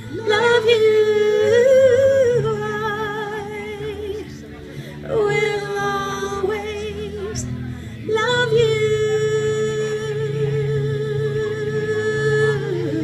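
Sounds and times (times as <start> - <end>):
woman singing with vibrato: 0.0 - 13.0.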